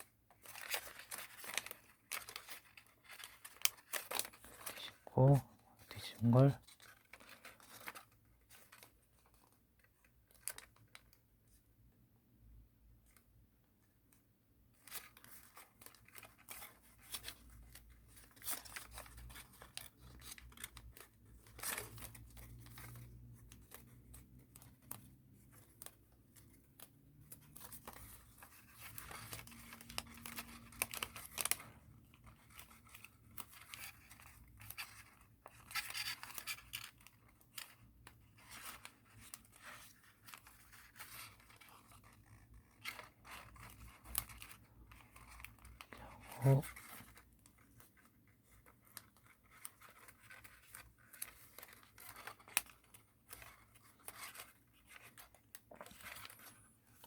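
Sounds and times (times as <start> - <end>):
paper crinkling and rustling: 0.0 - 11.9, 12.5 - 57.0.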